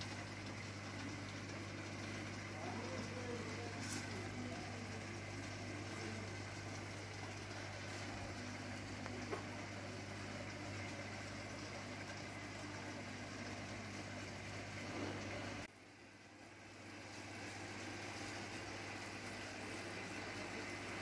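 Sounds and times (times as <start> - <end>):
aquarium filter hum and hiss: 0.0 - 21.0.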